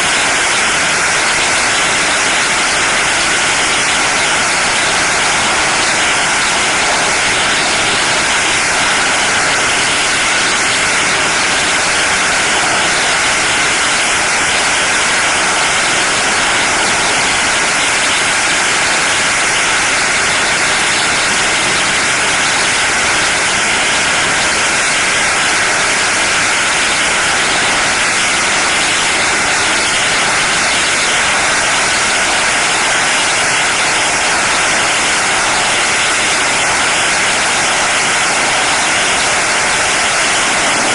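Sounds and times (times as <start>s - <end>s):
firecrackers crackling: 0.0s - 40.9s.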